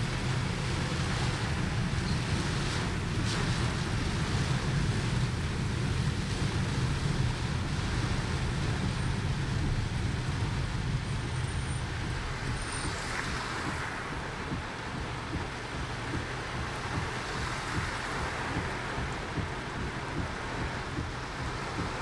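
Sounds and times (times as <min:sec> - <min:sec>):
car road and engine rumble: 0:00.0 - 0:22.0
rain and tyre spray hiss: 0:00.0 - 0:22.0.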